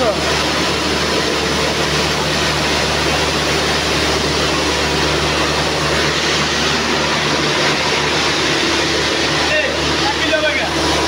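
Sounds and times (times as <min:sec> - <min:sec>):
machines running: 0:00.0 - 0:11.0.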